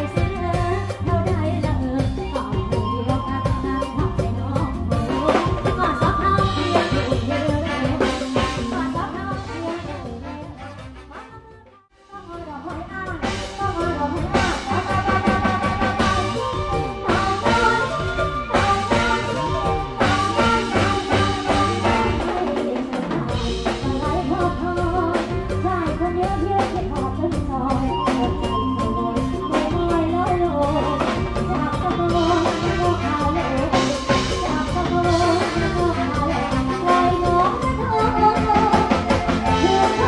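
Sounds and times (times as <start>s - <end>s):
person singing: 0.0s - 11.5s, 12.1s - 40.0s
drum kit beat: 0.0s - 11.6s, 12.3s - 40.0s
live band playing: 0.0s - 40.0s.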